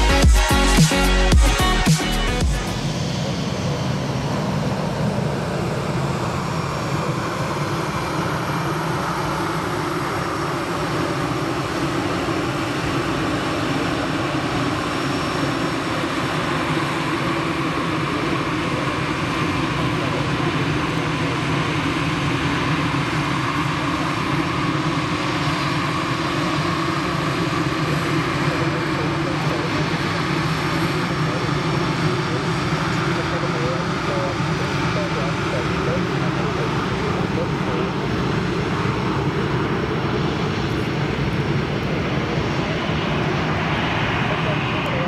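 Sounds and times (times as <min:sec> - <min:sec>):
jet engine rush: 0:00.0 - 0:45.0.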